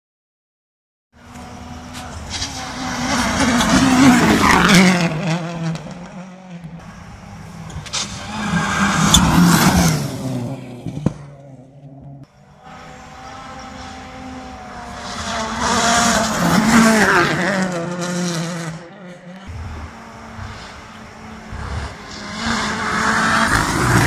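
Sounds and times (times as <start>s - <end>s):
rally car engines passing: 1.2s - 24.0s.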